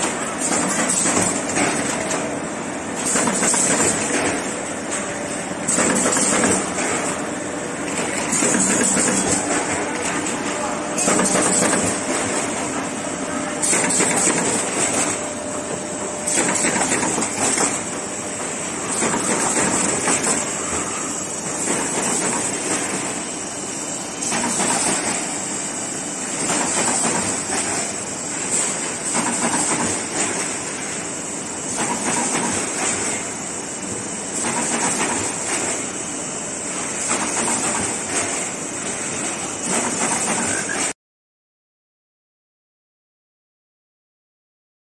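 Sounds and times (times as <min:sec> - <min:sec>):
machine clatter of conveyors: 0:00.0 - 0:41.0.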